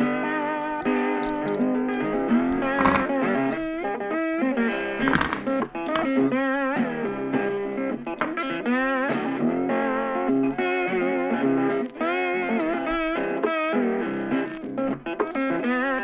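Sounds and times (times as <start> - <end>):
bluesy electric guitar melody: 0.0 - 16.0.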